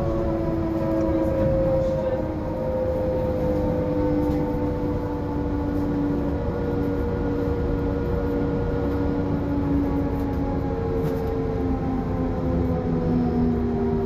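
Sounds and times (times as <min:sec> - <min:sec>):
low road rumble: 0:00.0 - 0:14.0.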